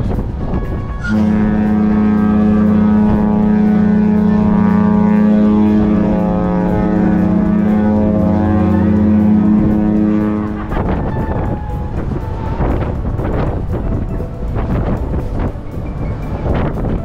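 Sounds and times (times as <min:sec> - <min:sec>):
ship's horn blast: 0:00.0 - 0:17.0.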